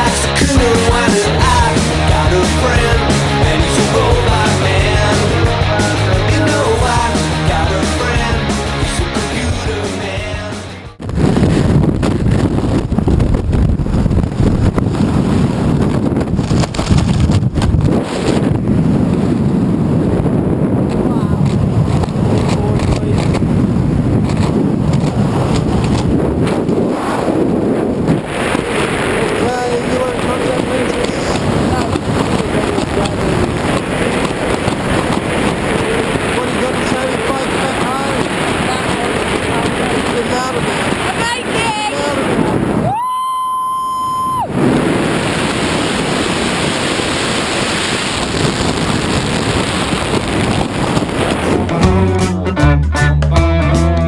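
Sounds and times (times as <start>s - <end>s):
wind buffeting microphone: 0.0s - 52.6s.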